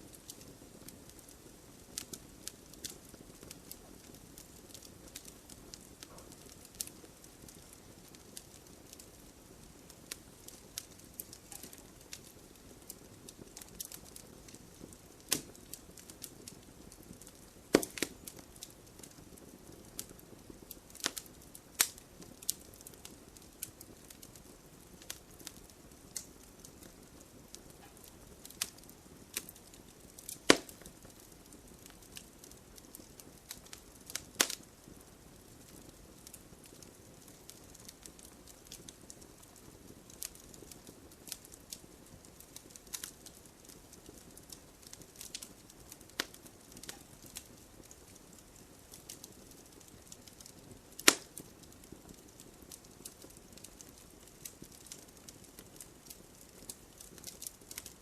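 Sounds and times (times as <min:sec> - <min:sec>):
firewood crackling: 0:00.0 - 0:58.0
sharp fire pops: 0:00.1 - 0:58.0.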